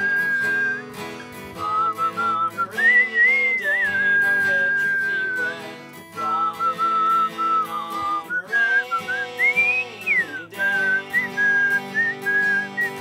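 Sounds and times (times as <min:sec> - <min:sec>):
person whistling a melody: 0:00.0 - 0:13.0
strummed acoustic guitar: 0:00.0 - 0:13.0.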